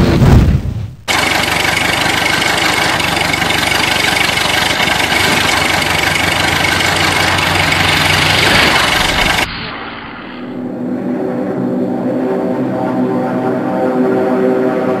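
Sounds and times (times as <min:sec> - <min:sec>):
propeller aircraft engine: 0:01.1 - 0:09.5, 0:10.5 - 0:15.0.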